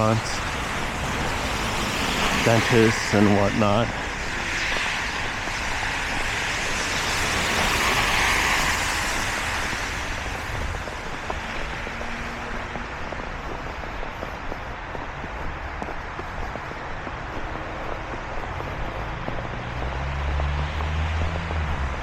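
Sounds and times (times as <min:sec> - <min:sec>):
car tyres hissing on slush: 0:00.0 - 0:22.0.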